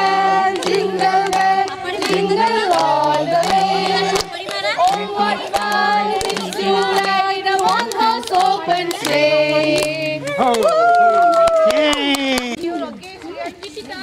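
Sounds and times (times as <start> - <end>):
women and children singing: 0.0 - 11.0, 12.5 - 14.0
people clapping: 0.0 - 13.3.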